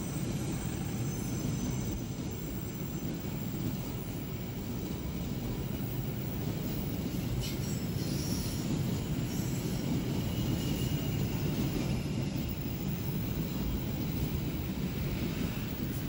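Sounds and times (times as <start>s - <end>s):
faint high wheel squeal: 0.0s - 5.9s, 6.5s - 16.0s
train wheels rumbling on rail: 0.0s - 16.0s.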